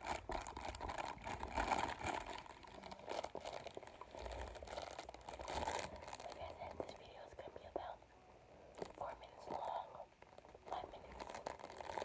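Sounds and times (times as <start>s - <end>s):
crinkling rustling on microphone: 0.0s - 8.0s, 8.7s - 12.0s.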